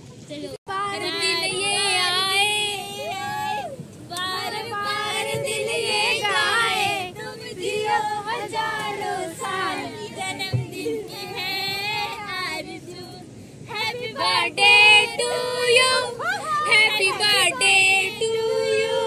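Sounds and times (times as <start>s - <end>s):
young women singing together: 0.7s - 19.0s.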